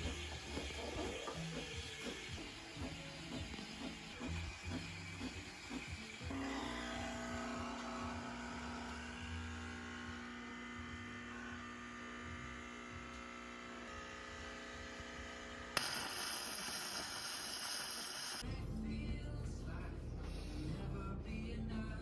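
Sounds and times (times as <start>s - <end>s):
coffee machine hissing: 0.0s - 18.4s
low humming tones: 0.0s - 22.0s.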